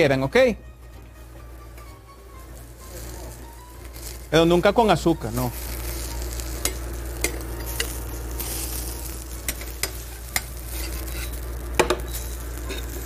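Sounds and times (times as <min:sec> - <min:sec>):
food sizzling in a frying pan: 0:01.2 - 0:13.0.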